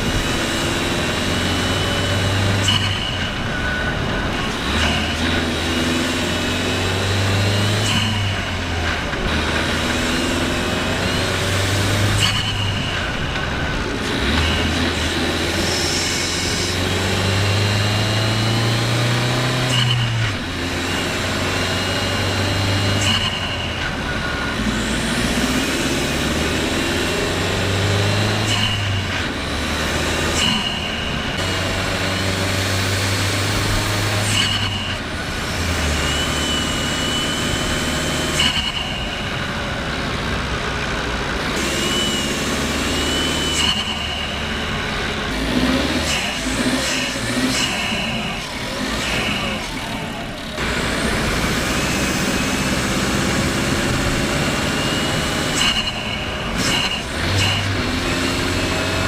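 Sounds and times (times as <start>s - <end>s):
car engine pulling under load: 0.0s - 59.0s
road noise: 0.0s - 59.0s.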